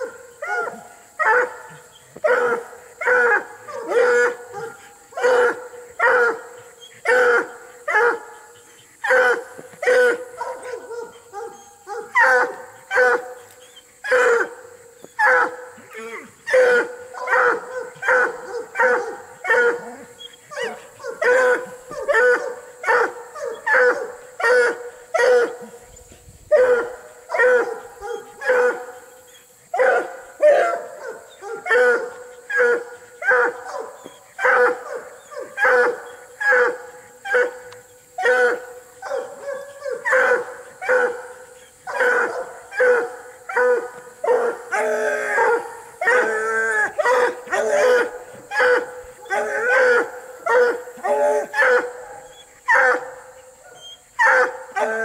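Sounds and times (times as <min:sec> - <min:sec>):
hounds barking: 0:00.0 - 0:55.0
hounds howling: 0:00.0 - 0:55.0.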